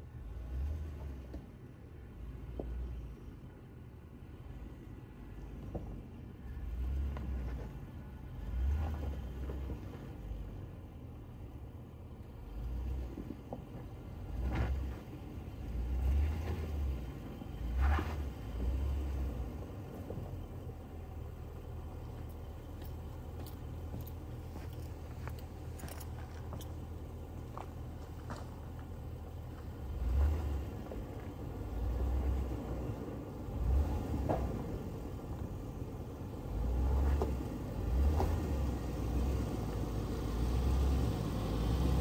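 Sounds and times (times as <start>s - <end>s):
vehicle engine low rumble: 0.0s - 42.0s.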